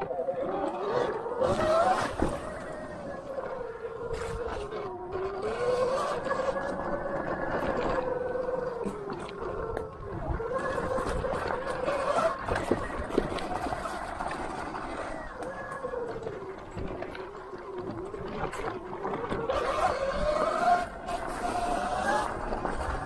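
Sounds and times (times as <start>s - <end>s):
electric motor whining: 0.0s - 23.0s
rumbling trail noise: 0.0s - 23.0s.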